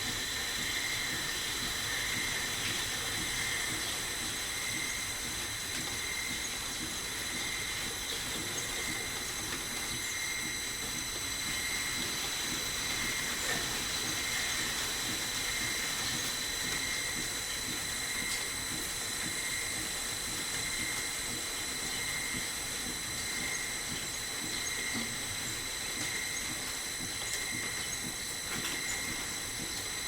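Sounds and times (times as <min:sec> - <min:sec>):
lathe running with high whine: 0:00.0 - 0:30.0.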